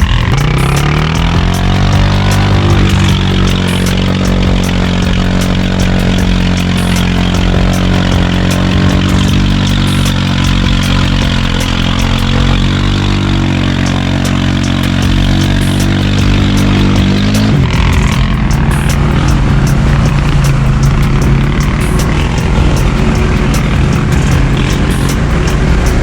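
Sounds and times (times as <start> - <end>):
atv engine running at low revs: 0.0 - 26.0.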